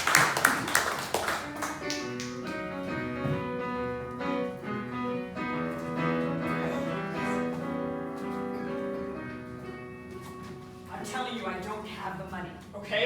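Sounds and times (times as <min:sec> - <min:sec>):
piano playing chords: 0:00.0 - 0:11.7.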